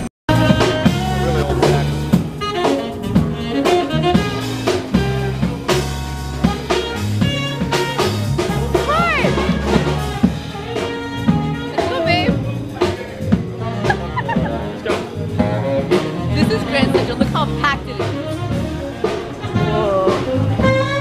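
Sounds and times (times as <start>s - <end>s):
jazz band playing: 0.0s - 21.0s
saxophone: 0.0s - 21.0s.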